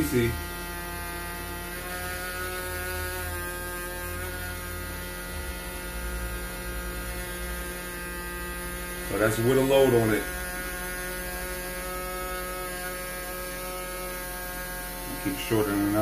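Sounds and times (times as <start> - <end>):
electrical hum and buzz: 0.0 - 16.0.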